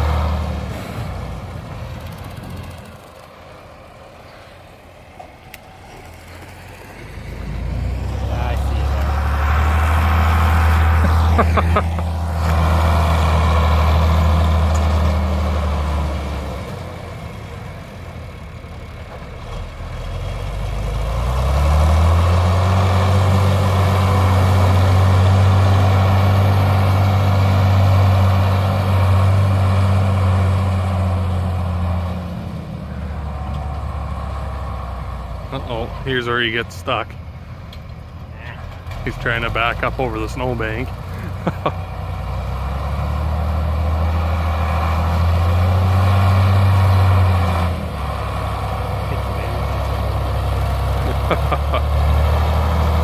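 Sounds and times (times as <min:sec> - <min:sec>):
tractor engine working hard: 0:00.0 - 0:53.0.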